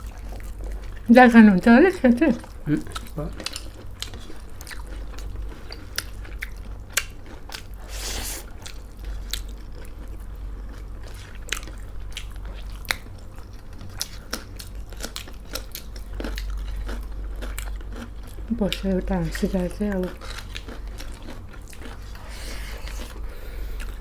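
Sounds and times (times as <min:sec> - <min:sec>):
chewing and biting: 0:02.8 - 0:18.8, 0:19.4 - 0:24.0.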